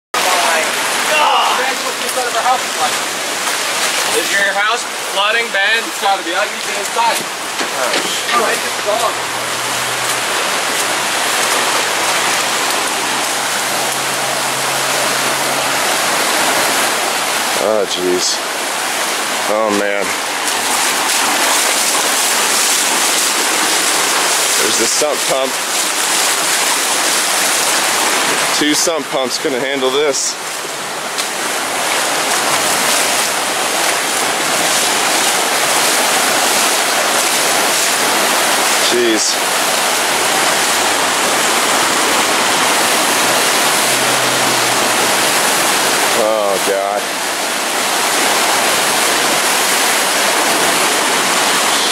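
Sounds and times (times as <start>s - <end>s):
floodwater rushing: 0.1s - 51.9s.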